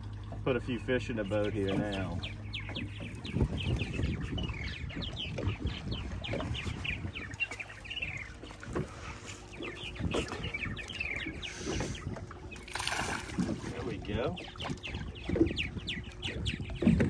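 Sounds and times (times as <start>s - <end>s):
small waves lapping against hull: 0.0s - 17.0s.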